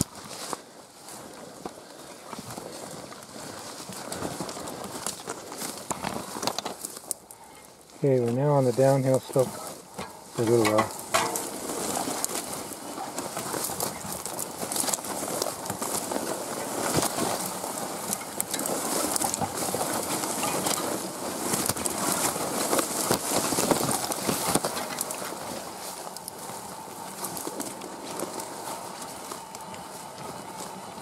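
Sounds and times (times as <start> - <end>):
grass swishing against cart: 0.0 - 7.2, 7.9 - 31.0
small crackles and clicks: 0.0 - 31.0.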